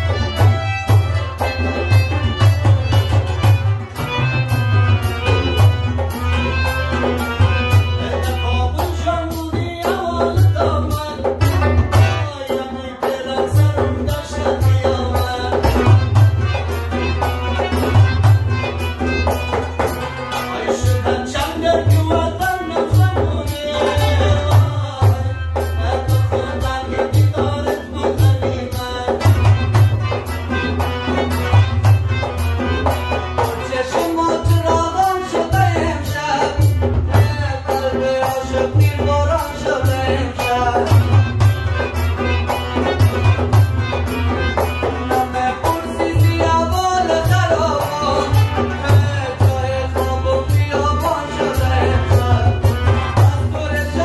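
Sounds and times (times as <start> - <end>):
harmonium: 0.0 - 54.0
man singing: 0.0 - 54.0
rubab: 0.0 - 54.0
tabla: 0.0 - 54.0
second man singing: 7.1 - 31.3, 33.3 - 43.6, 44.6 - 54.0.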